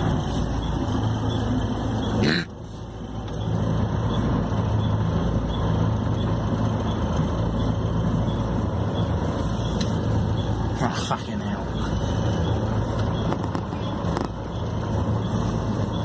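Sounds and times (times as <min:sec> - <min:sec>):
bus engine hum: 0:00.0 - 0:16.0.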